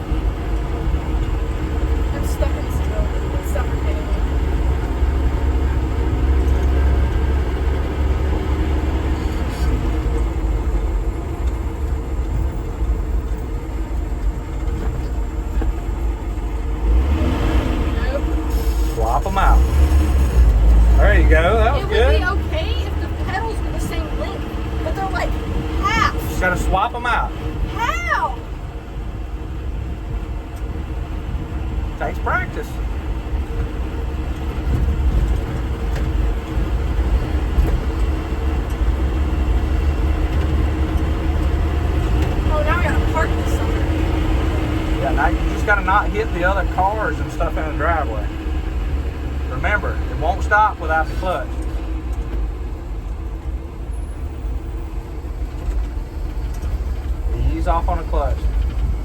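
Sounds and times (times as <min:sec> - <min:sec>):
truck engine droning: 0:00.0 - 0:59.0.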